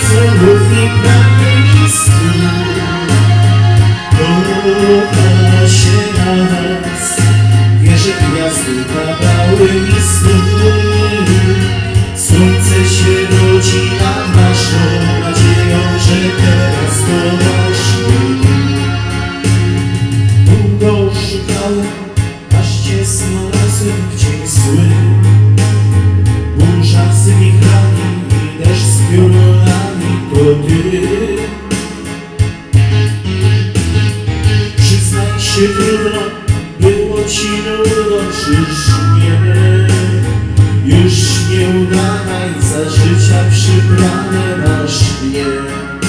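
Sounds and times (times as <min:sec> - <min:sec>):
electronic keyboard backing music: 0:00.0 - 0:46.0.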